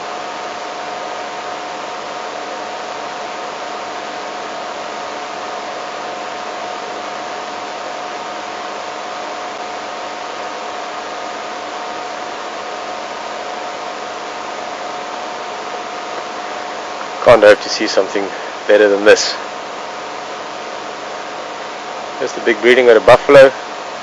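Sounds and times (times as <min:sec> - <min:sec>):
constant high whine: 0:00.0 - 0:24.0
steady loud hiss: 0:00.0 - 0:24.0.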